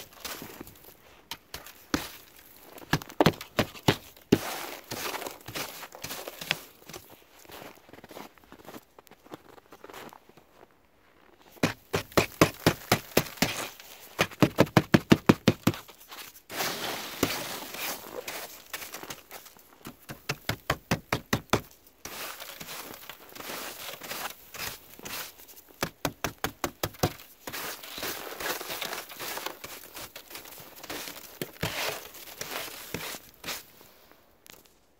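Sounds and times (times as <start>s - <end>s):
icy snow crunching and cracking: 0.0s - 14.6s, 15.6s - 26.1s, 26.7s - 34.9s.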